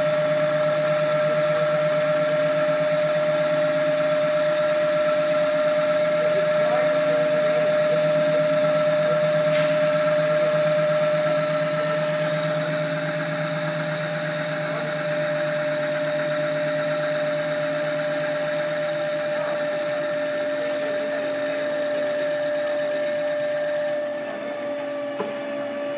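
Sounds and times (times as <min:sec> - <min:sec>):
tool cutting wood hiss: 0:00.0 - 0:25.5
lathe whine: 0:00.0 - 0:25.9.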